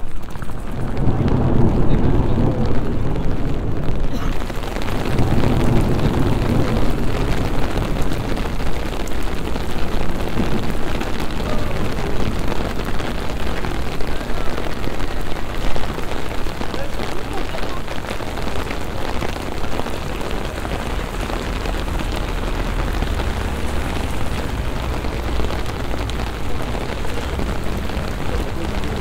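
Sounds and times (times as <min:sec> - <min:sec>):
heavy rain on pavement: 0:00.0 - 0:29.0
thunder rumbling: 0:00.0 - 0:29.0.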